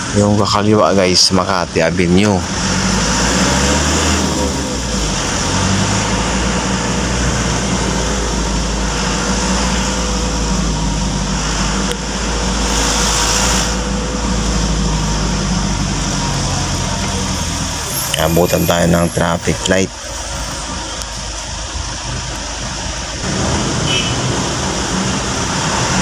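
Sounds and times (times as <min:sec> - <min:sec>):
car engine: 0:00.0 - 0:26.0
road noise: 0:00.0 - 0:26.0.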